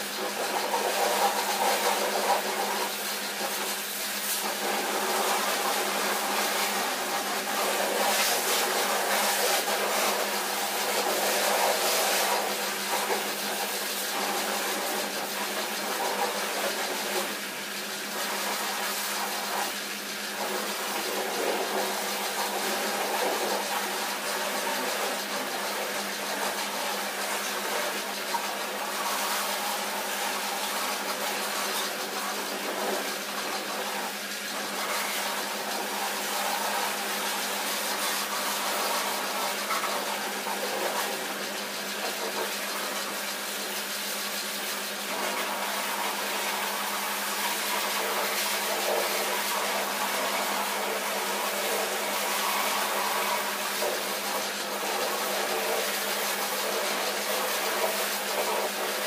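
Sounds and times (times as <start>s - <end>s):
pressure washer spraying water: 0.0s - 59.0s.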